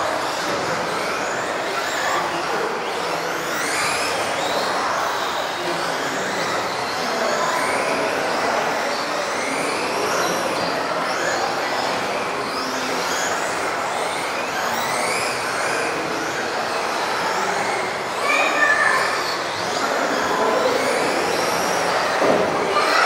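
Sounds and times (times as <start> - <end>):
electric toy car motors whining: 0.0 - 23.0.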